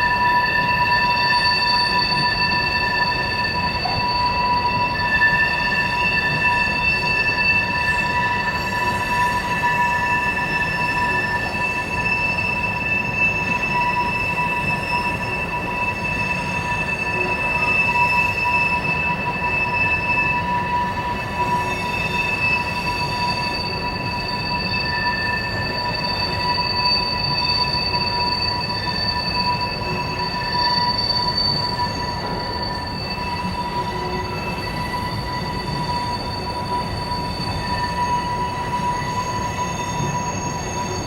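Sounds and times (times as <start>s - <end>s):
high wheel squeal: 0.0s - 41.0s.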